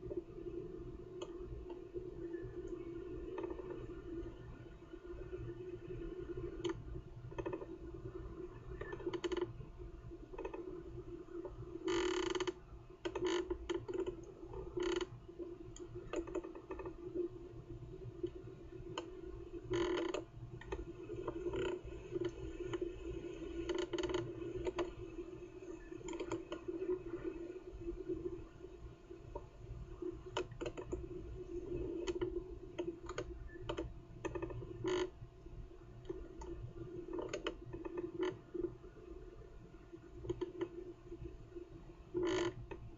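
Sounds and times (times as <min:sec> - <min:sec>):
steady low hum: 0:00.0 - 0:42.9
clicks and creaks: 0:01.1 - 0:04.5, 0:06.3 - 0:17.3, 0:18.0 - 0:28.4, 0:29.3 - 0:35.2, 0:36.0 - 0:38.9, 0:40.2 - 0:41.2, 0:42.1 - 0:42.9.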